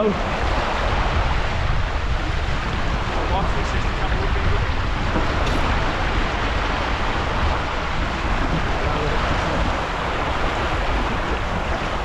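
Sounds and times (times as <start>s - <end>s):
water washing past hull: 0.0s - 12.0s
wind rushing over microphone: 0.0s - 12.0s.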